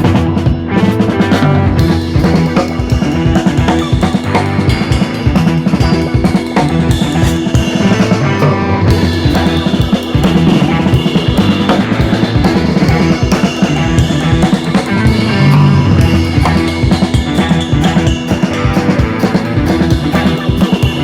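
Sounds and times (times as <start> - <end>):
rock music with drums and guitar: 0.0 - 21.0.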